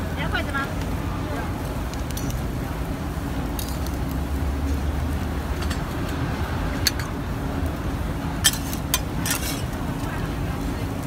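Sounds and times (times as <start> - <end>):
street background rumble: 0.0 - 11.0.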